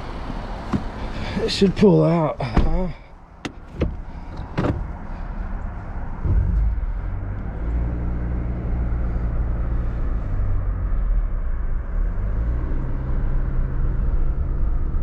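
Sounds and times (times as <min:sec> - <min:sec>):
car engine humming at low revs: 0:00.0 - 0:15.0.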